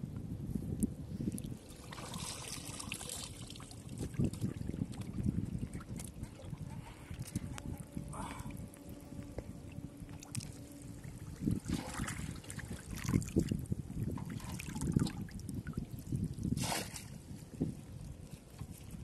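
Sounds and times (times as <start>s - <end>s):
water sloshing and splashing: 1.2s - 19.0s.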